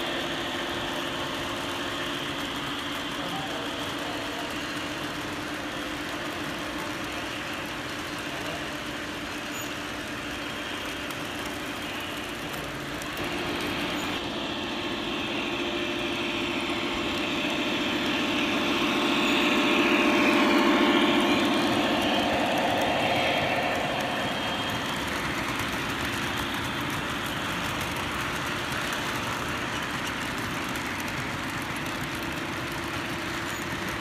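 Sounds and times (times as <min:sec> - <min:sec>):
diesel engine sound effect: 0:00.0 - 0:34.0
model train wheels rumbling: 0:00.0 - 0:34.0.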